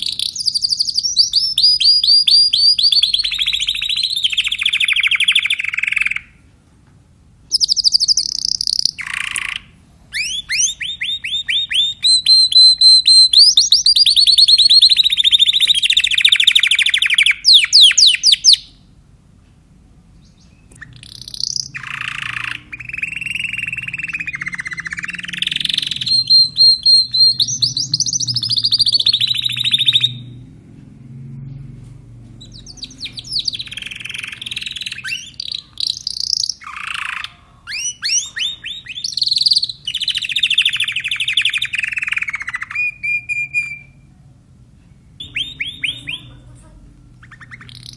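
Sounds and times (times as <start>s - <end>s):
canary singing trills: 0.0s - 6.5s, 7.5s - 18.9s, 20.1s - 30.4s, 32.4s - 44.1s, 44.9s - 47.9s.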